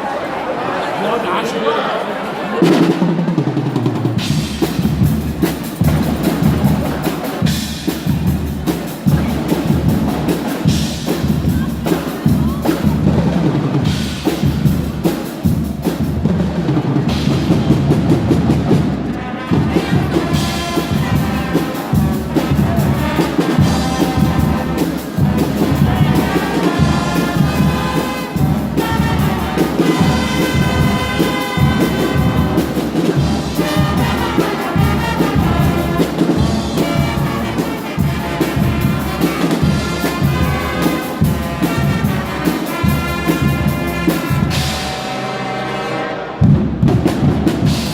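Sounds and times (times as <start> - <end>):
bass drum and snare beat: 2.8 - 45.0, 46.4 - 47.9
trumpets and trombones: 4.0 - 47.9.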